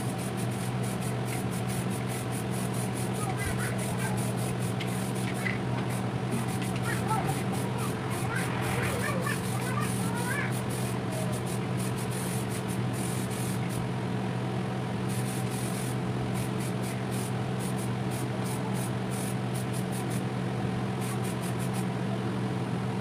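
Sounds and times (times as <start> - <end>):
spray paint can hissing: 0.0 - 13.8, 15.1 - 20.2, 21.0 - 21.8
fan humming: 0.0 - 22.8.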